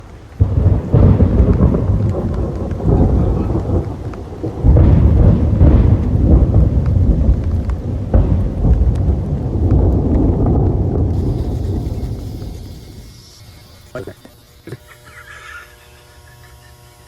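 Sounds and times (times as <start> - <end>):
rain: 0.0 - 17.0
deep rumbling thunder: 0.4 - 14.6.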